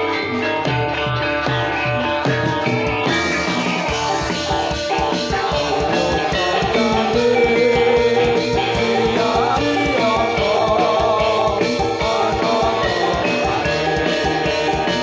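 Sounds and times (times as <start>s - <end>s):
fast steady drum beat: 0.0s - 15.0s.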